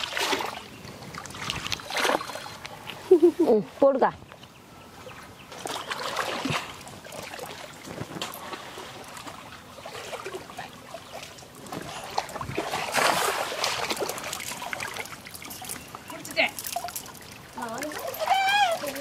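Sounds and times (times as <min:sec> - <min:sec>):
shallow water splashing: 0:00.0 - 0:03.0, 0:05.0 - 0:19.0.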